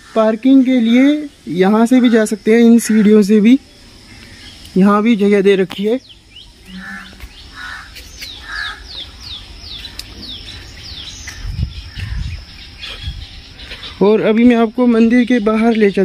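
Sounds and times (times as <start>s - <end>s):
birds chirping: 0.0s - 16.0s
harsh lower bird calls: 0.0s - 16.0s
thin high insect drone: 0.0s - 16.0s.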